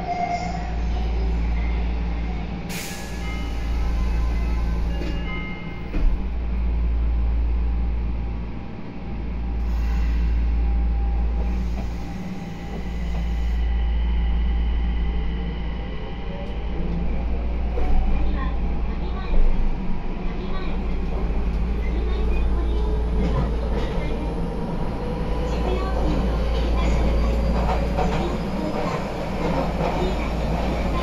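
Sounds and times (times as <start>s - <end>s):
subway train rumble: 0.0s - 31.0s.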